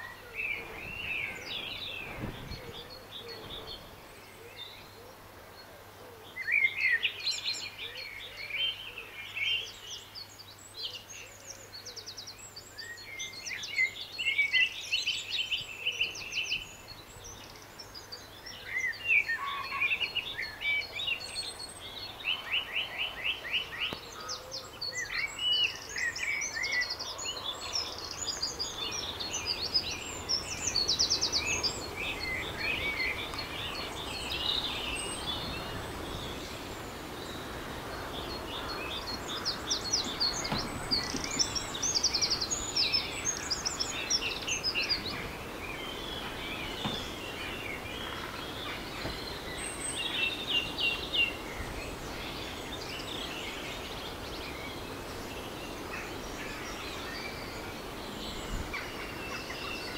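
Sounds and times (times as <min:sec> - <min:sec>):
songbirds singing and trilling: 0:00.0 - 0:59.9.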